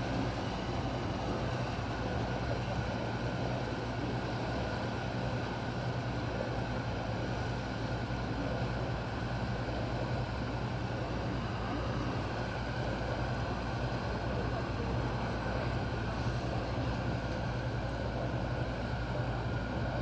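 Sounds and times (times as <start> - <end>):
boat engines droning: 0.0 - 20.0.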